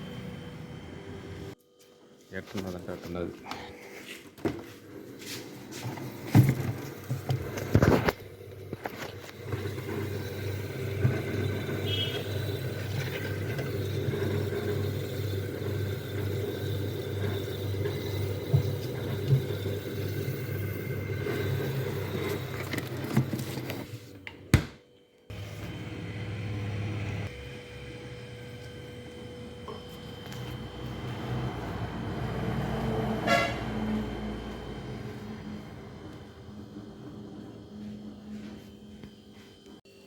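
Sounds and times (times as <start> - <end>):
refrigerator compressor humming: 0.0 - 1.9, 2.8 - 40.0.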